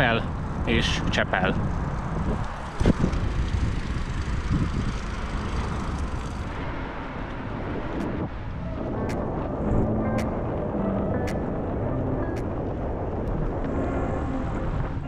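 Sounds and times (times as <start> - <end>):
bicycle road rumble: 0.0 - 15.0
wind on microphone: 0.0 - 15.0.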